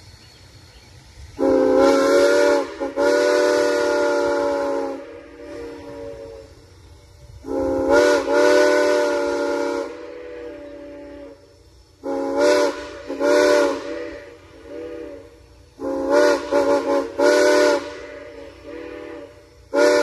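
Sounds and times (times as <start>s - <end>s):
rush of steam: 0.0s - 20.0s
steam locomotive whistle blasts: 1.4s - 20.0s.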